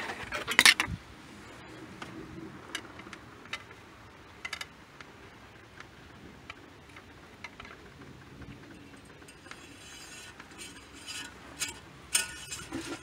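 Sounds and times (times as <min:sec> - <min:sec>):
faint clicks and clinking: 0:02.0 - 0:13.0.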